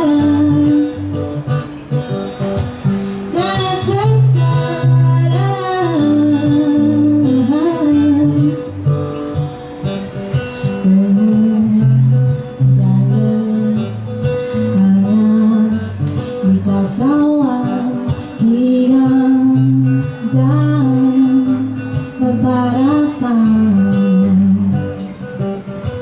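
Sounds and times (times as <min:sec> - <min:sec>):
woman singing: 0:00.0 - 0:01.7, 0:03.2 - 0:09.0, 0:10.6 - 0:25.2
acoustic guitar: 0:00.0 - 0:26.0.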